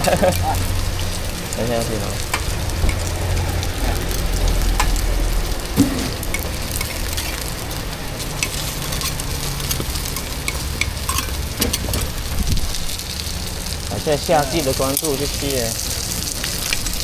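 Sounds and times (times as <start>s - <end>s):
pancake sizzling on griddle: 0.0s - 17.0s.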